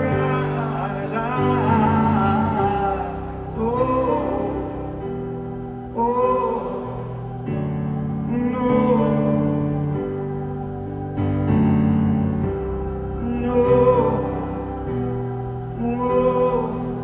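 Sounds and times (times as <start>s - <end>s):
person singing: 0.0s - 10.6s, 13.2s - 17.0s
sustained keyboard chords: 0.0s - 17.0s.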